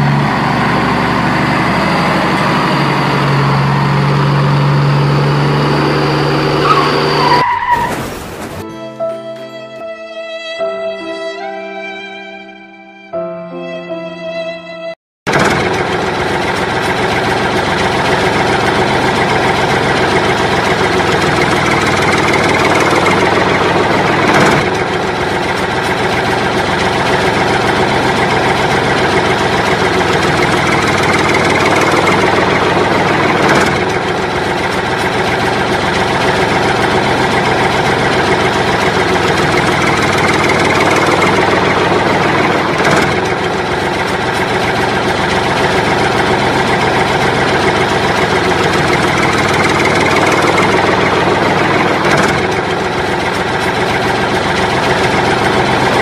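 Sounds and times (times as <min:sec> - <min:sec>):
engine running steadily: 0:00.0 - 0:07.4, 0:15.3 - 0:56.0.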